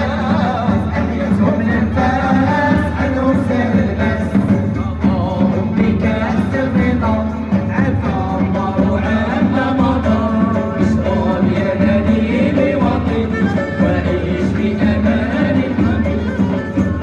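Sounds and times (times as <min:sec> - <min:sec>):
drums keeping steady rhythm: 0:00.0 - 0:17.0
keyboard: 0:00.0 - 0:17.0
men singing into microphones: 0:00.0 - 0:17.0
oud: 0:00.0 - 0:17.0
violin: 0:00.0 - 0:17.0.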